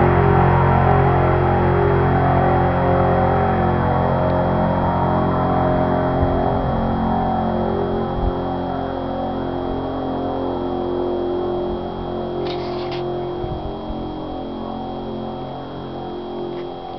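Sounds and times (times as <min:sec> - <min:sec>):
truck engine droning: 0:00.0 - 0:16.9.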